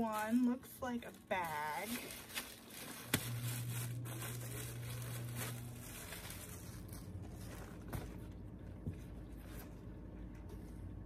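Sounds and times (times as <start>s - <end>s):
plastic wrapping crinkling: 0.0s - 10.0s
low steady hum: 0.0s - 11.0s.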